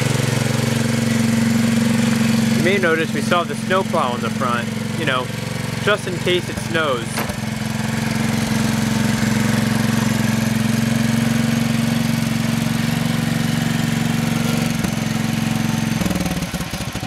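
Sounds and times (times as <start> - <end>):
model locomotive engine running: 0.0 - 17.0.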